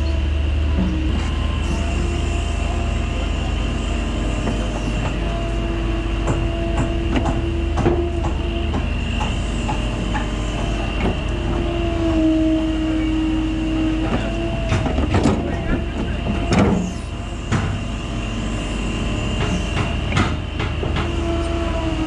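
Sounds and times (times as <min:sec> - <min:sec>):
excavator diesel engine: 0:00.0 - 0:22.0
hydraulic whine: 0:00.0 - 0:22.0.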